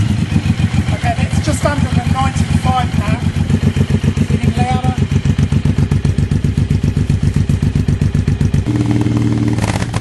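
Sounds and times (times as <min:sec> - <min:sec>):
exhaust crack: 0:00.0 - 0:10.0
motorcycle engine idling and revving: 0:00.0 - 0:10.0.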